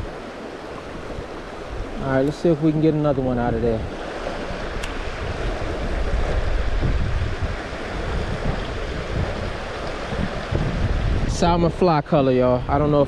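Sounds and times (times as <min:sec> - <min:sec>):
stream water flowing: 0:00.0 - 0:13.0
wind on microphone: 0:00.0 - 0:13.0.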